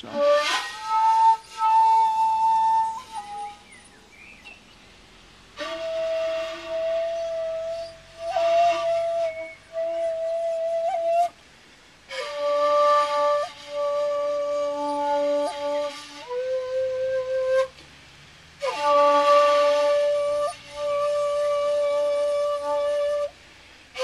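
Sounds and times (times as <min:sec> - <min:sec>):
bamboo flute playing: 0:00.0 - 0:24.0.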